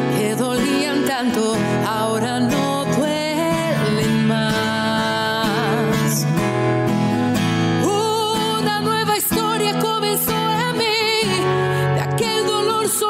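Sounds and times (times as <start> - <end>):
acoustic guitar: 0.0 - 13.0
person singing with vibrato: 0.0 - 13.0.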